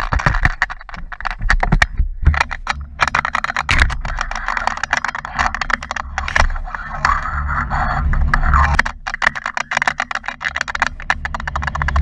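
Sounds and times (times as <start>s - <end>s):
gear clattering clicks and knocks: 0.0s - 12.0s.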